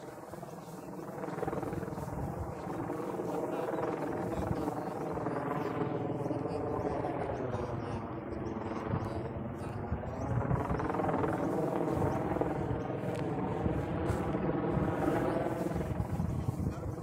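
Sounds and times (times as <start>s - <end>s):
helicopter flying overhead: 0.0s - 17.0s.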